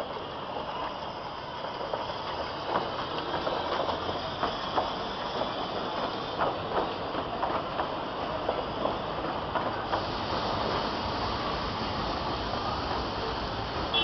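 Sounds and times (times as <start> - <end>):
train rushing noise: 0.0 - 14.0
wheels clanking on rails: 0.0 - 14.0.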